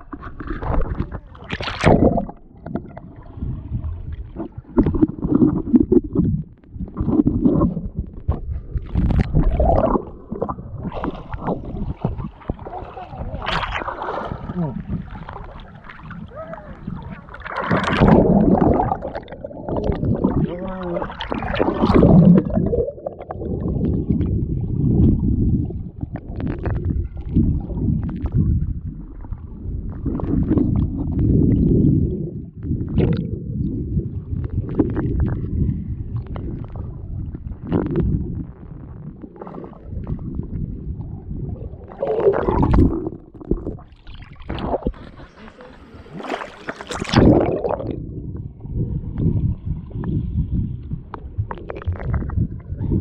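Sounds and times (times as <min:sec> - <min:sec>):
bubbling: 0:00.0 - 0:53.0
underwater river gurgling: 0:00.0 - 0:53.0.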